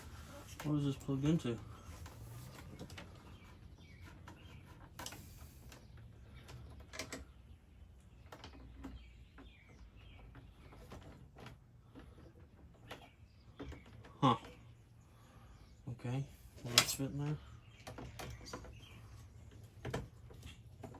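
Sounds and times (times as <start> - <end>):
faint clicks and knocks of handling: 0.0 - 15.0, 16.6 - 20.9
faint chirping: 0.0 - 20.9.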